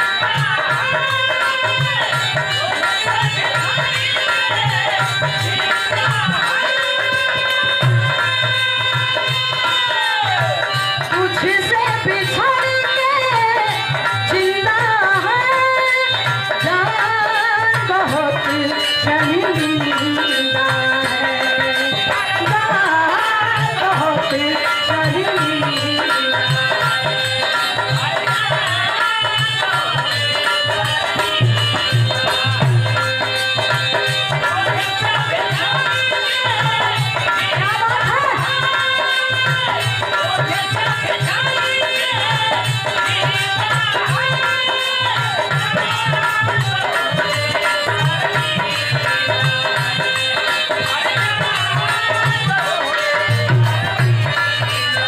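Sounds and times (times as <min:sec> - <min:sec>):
woman singing: 0:00.0 - 0:55.0.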